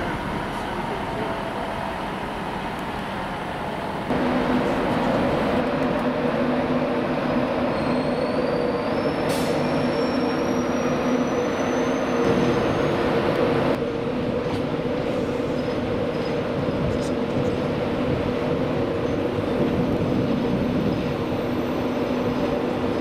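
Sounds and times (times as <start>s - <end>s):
electric train coming in: 0.0s - 23.0s
steady train hum: 0.0s - 23.0s
train running slowly: 0.0s - 23.0s.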